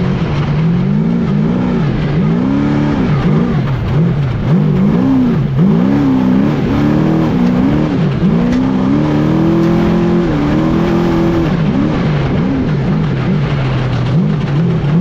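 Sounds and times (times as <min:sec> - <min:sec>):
race engine revving: 0:00.0 - 0:15.0
road and wind noise: 0:00.0 - 0:15.0.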